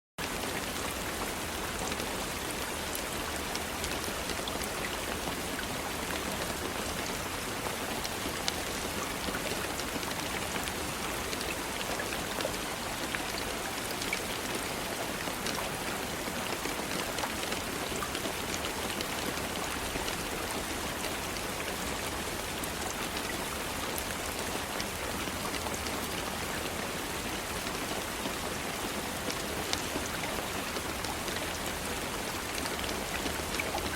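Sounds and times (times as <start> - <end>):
steady rain falling: 0.2 - 33.9.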